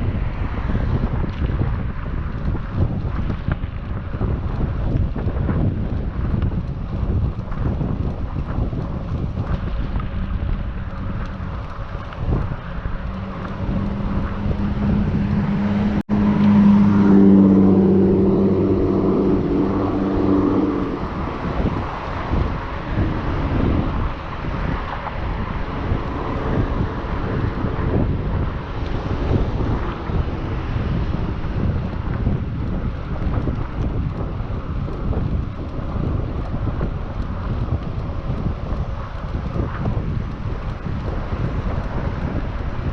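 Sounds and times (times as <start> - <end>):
passing vehicle hum: 0.0 - 42.9
wind rushing over microphone: 0.0 - 42.9.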